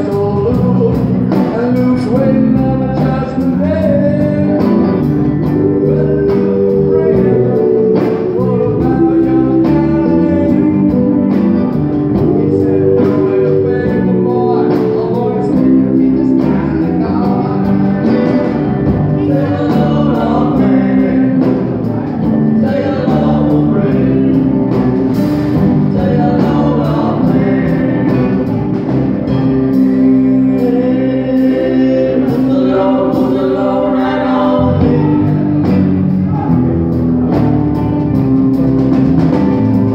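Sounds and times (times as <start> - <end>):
man singing into microphone: 0.0 - 18.5, 19.2 - 24.5, 25.8 - 28.7, 29.7 - 36.6
drum kit: 0.0 - 39.9
electric guitars: 0.0 - 39.9.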